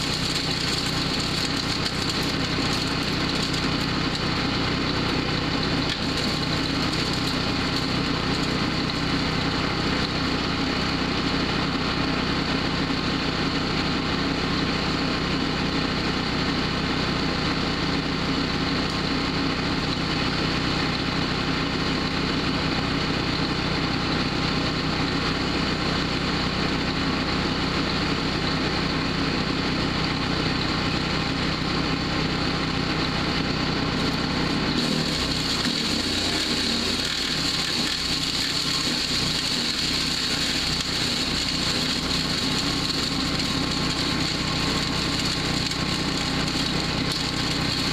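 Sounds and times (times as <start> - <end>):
wood chipper engine drone: 0.0 - 47.9.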